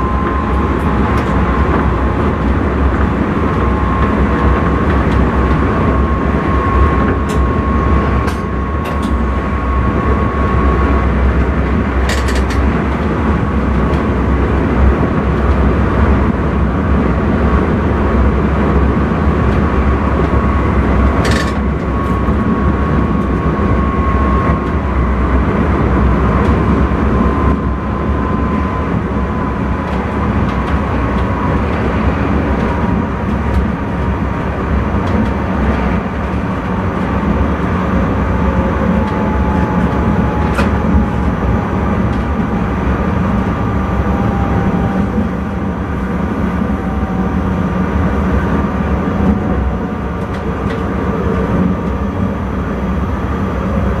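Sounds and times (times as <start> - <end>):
thin steady whine: 0.0 - 15.4, 19.3 - 54.0
train rumble: 0.0 - 54.0.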